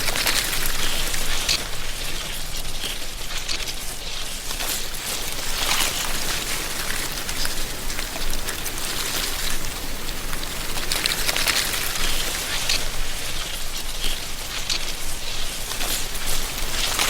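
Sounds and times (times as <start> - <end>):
wind rustling dry leaves: 0.0 - 17.0.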